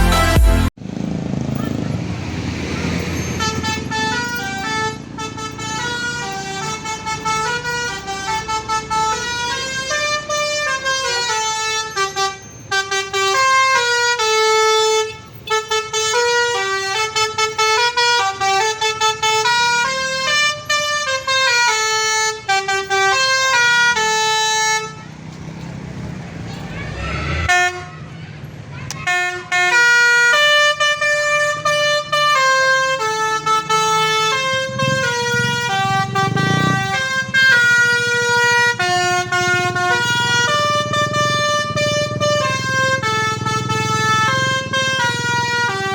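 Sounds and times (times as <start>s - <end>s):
musical bus air horn melody: 0.0s - 0.8s, 3.2s - 25.1s, 27.4s - 28.0s, 29.0s - 45.9s.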